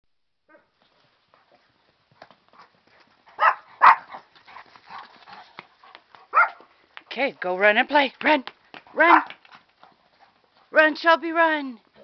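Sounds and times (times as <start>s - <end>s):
hoofbeats on dirt: 0.7s - 12.0s.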